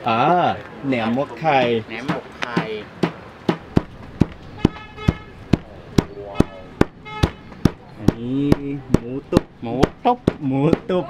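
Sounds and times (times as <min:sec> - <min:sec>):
hammer pounding meat on wood: 0:02.1 - 0:11.0.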